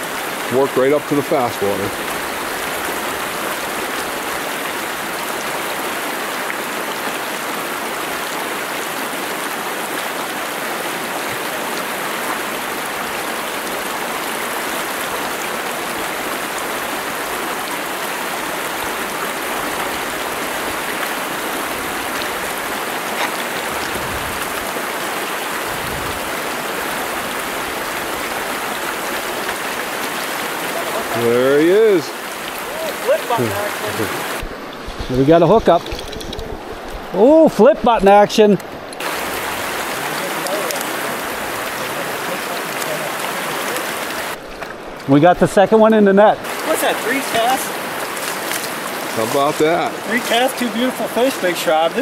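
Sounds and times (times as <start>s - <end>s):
stream water over rocks: 0.0s - 52.0s.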